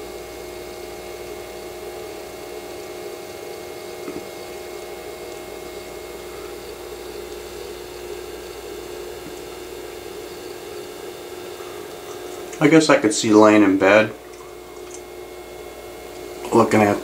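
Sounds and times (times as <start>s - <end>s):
small motor humming: 0.0s - 17.0s.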